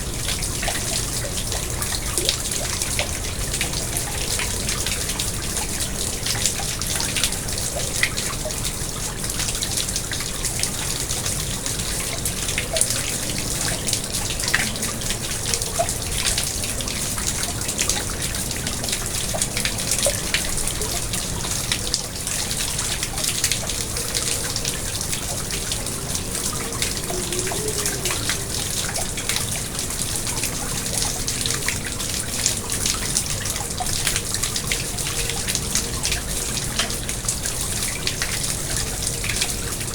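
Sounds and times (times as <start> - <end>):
water drips and plinks: 0.0 - 39.9
water trickling and splashing: 0.0 - 39.9.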